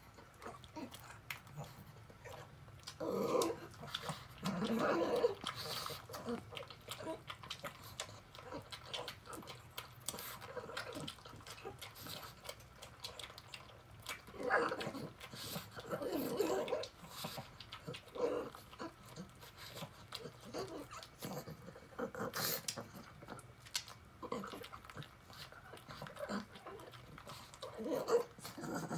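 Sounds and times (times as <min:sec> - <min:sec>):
dog eating wet food: 0:00.0 - 0:28.9.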